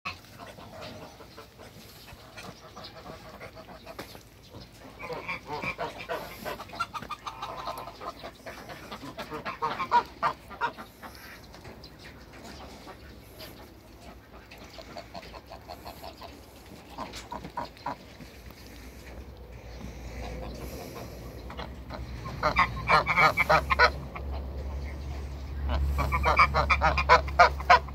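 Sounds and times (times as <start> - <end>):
farmyard poultry calling: 0.1 - 27.9.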